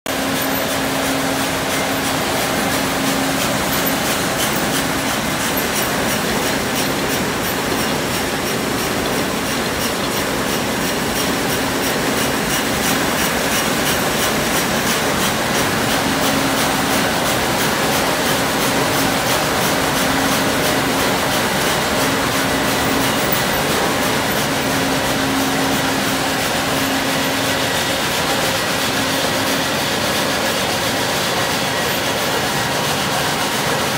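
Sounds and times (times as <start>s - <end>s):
steady machine hum: 0.1s - 33.9s
steel slitting machine din: 0.1s - 33.9s.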